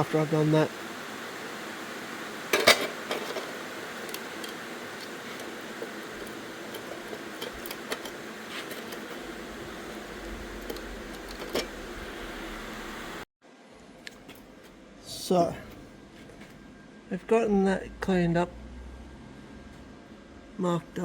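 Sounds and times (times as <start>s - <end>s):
workshop background noise: 0.0s - 13.2s, 14.0s - 18.6s.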